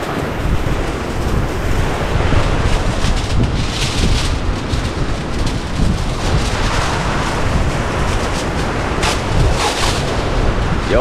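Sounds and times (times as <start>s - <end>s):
rough surf: 0.0s - 11.0s
wind buffeting microphone: 0.0s - 11.0s.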